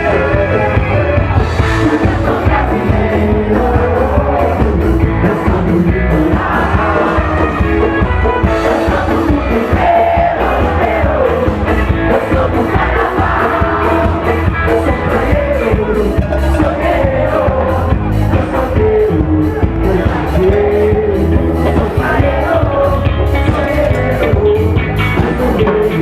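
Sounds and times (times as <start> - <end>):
person singing: 0.0 - 26.0
upbeat carnival music: 0.0 - 26.0.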